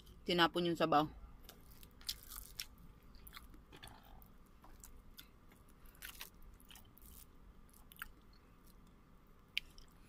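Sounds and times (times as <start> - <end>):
person chewing with wet smacks: 1.4 - 10.0.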